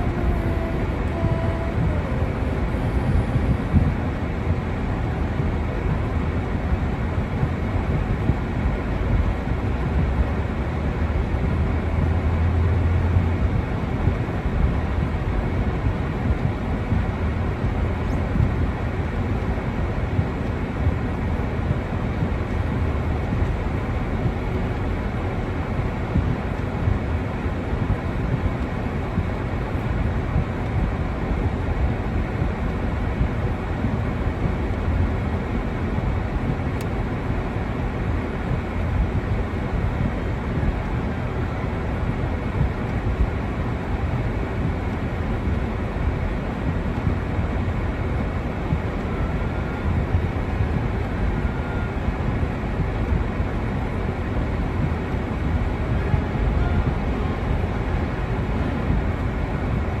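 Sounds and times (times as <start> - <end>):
deep rumble: 0.0 - 60.0.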